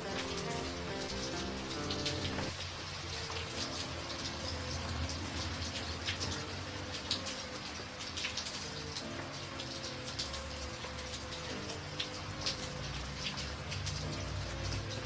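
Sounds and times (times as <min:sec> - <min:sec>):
raindrops clicking close by: 0:00.0 - 0:15.0
steady rain: 0:00.0 - 0:15.0.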